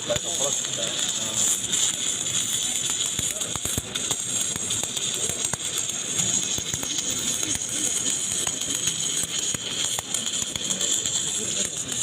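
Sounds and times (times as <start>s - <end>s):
welding arc hissing and crackling: 0.0s - 12.0s.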